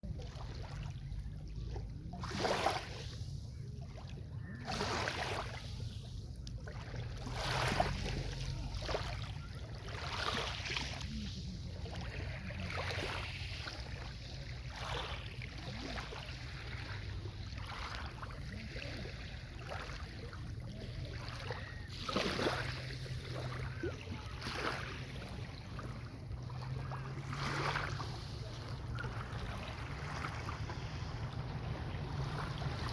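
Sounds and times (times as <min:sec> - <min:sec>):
sea waves washing onto beach: 0:00.2 - 0:32.9.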